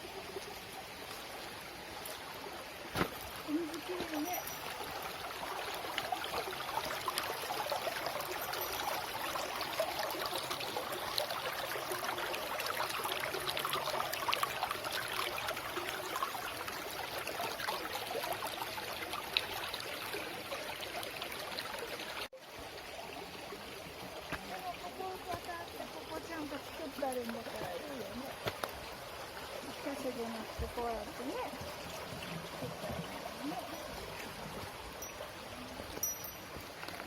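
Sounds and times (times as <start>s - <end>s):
stream trickling over stones: 0.0s - 37.0s.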